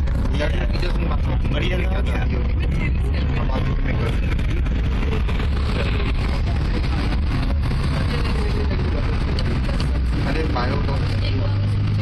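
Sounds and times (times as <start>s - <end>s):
faint voices: 0.0s - 12.0s
tram low rumble: 0.0s - 12.0s.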